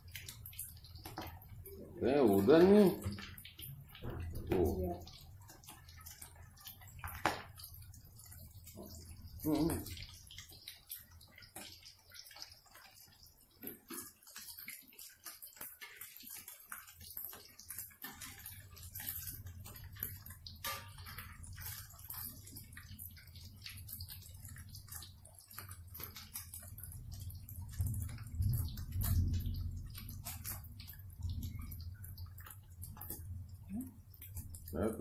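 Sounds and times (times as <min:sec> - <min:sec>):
fritters sizzling in hot oil: 0:00.0 - 0:35.0.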